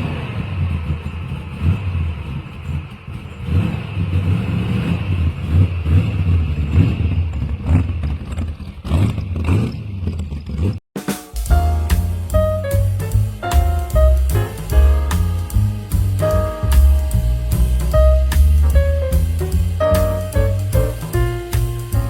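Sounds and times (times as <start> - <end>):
vehicle engine low rumble: 0.0 - 10.8, 11.4 - 22.0.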